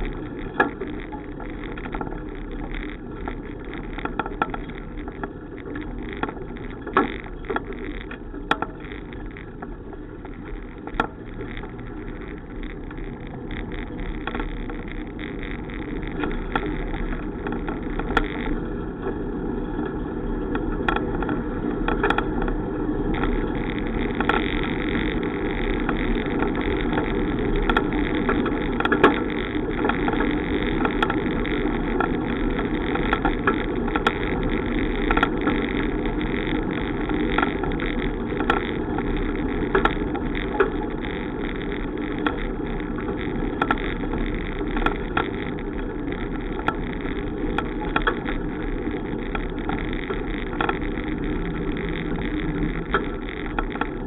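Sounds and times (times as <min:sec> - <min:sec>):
wind and road noise from bicycle: 0:00.0 - 0:54.0.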